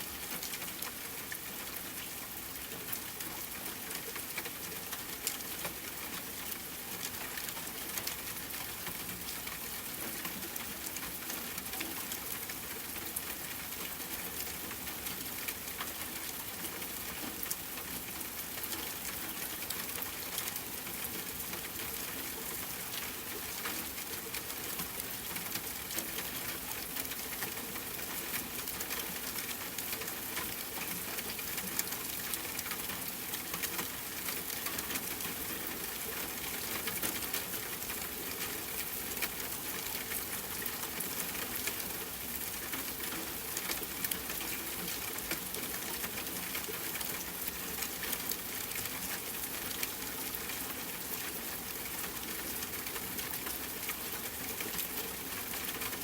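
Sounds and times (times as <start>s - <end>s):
rain on a tent: 0.0s - 56.0s.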